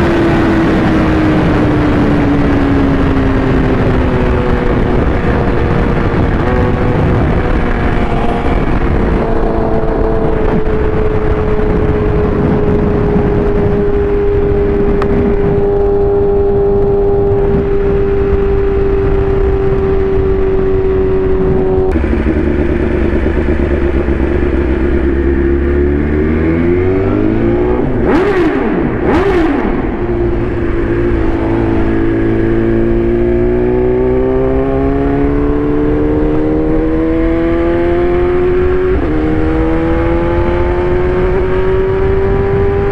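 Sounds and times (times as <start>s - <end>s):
motorcycle engine at speed: 0.0s - 42.9s
passing engine: 0.0s - 42.9s
wind rush: 0.0s - 42.9s.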